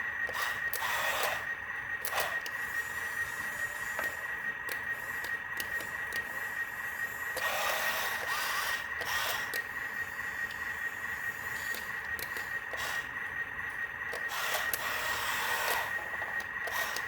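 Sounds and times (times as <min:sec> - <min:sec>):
toy truck motor whining: 0:00.0 - 0:17.0.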